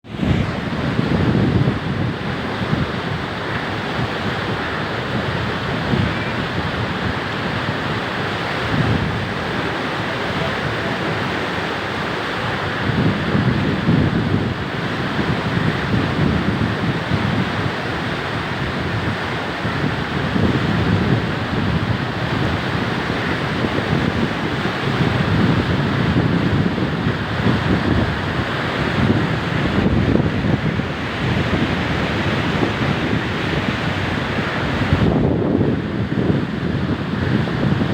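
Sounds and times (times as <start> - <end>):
floodwater rushing: 0.0 - 37.9
wind buffeting microphone: 0.0 - 37.9.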